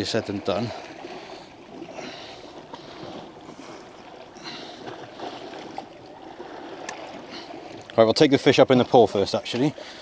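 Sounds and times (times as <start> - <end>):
sea washing around rocks: 0.0 - 10.0.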